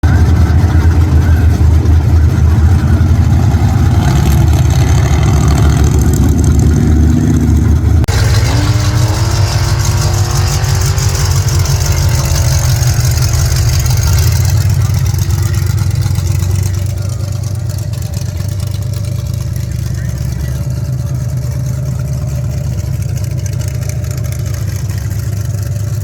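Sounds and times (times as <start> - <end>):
race truck engine revving: 0.0 - 26.0.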